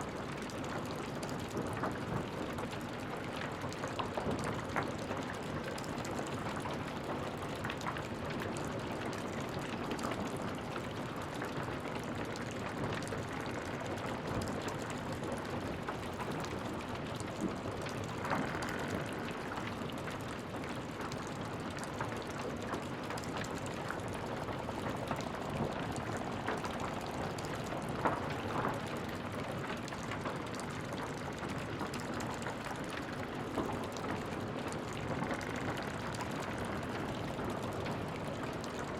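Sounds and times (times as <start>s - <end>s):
small crackles and ticks: 0.0s - 38.9s.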